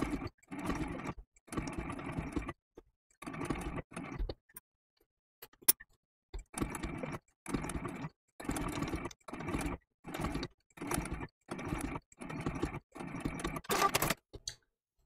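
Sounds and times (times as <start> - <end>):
sewing machine stitching: 0.0 - 4.3, 6.4 - 14.3.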